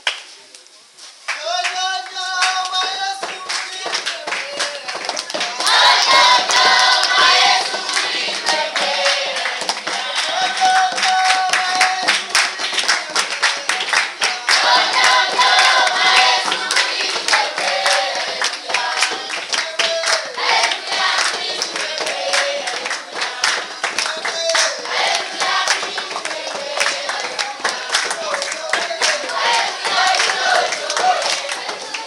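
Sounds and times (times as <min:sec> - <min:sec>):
hands clapping in rhythm: 0:00.0 - 0:00.3, 0:01.2 - 0:32.0
children singing: 0:05.3 - 0:32.0.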